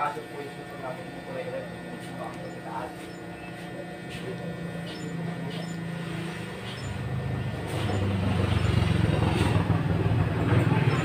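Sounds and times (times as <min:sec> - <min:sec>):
engine humming: 0:00.8 - 0:11.0.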